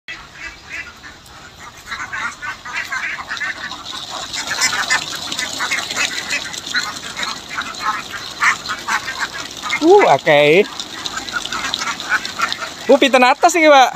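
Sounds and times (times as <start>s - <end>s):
flock of ducks quacking: 0.1s - 13.9s.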